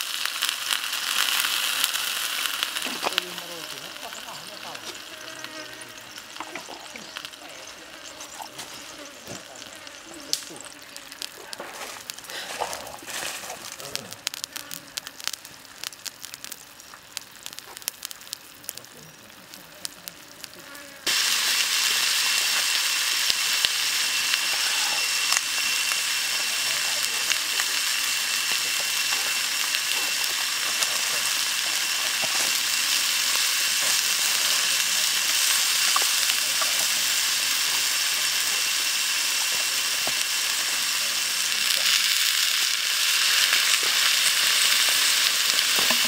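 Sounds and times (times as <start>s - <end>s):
liver sizzling in a pan: 0.0s - 46.0s
pops and crackles: 0.0s - 46.0s.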